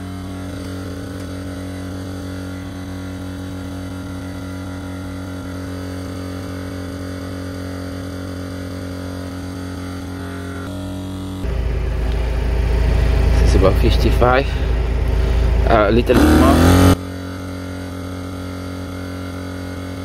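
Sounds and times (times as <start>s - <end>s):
electric air compressor running: 0.0s - 20.0s.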